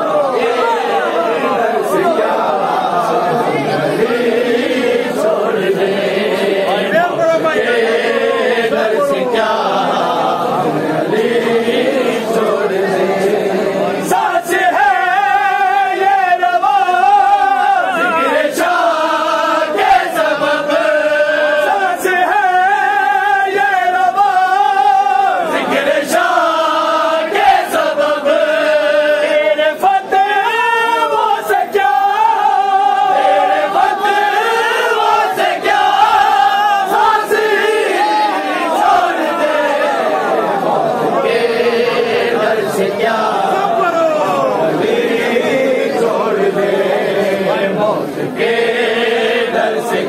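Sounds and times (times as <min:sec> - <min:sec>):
men singing a mourning chant: 0:00.0 - 0:50.0.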